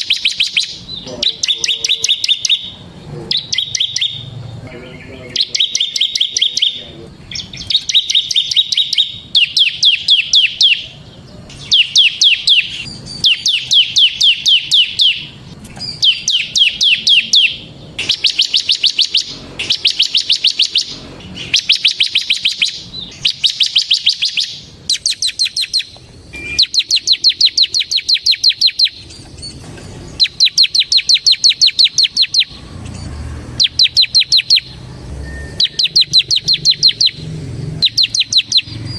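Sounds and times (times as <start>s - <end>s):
bird singing fast high notes: 0.0s - 38.9s.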